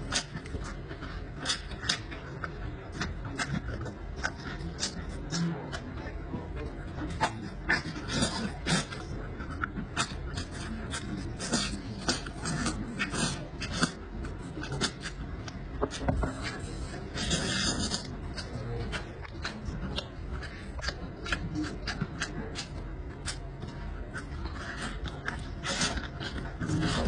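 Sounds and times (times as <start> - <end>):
man gnawing meat off bone: 0.0 - 27.0
wet chewing: 0.0 - 27.0.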